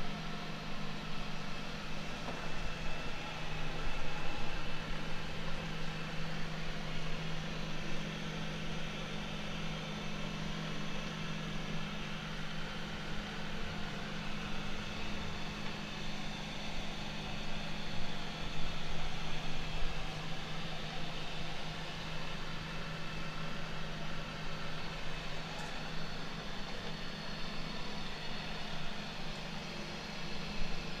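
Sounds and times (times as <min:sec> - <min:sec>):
robotic vacuum cleaner running: 0:00.5 - 0:31.0.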